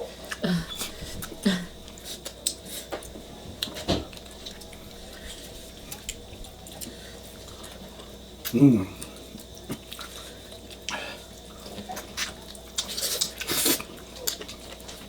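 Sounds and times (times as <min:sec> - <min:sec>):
chewing and squishing: 0:00.1 - 0:15.0.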